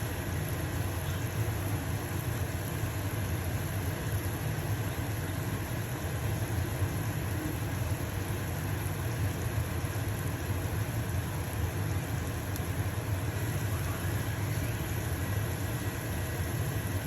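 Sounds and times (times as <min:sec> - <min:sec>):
exhaust fan humming: 0:00.0 - 0:17.0
pancake sizzling in a pan: 0:00.0 - 0:17.0.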